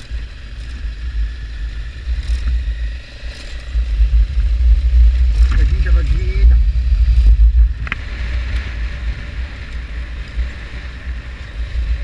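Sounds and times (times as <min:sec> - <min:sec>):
motorcycle riding noise: 0:00.0 - 0:12.0
wind buffeting microphone: 0:00.0 - 0:12.0.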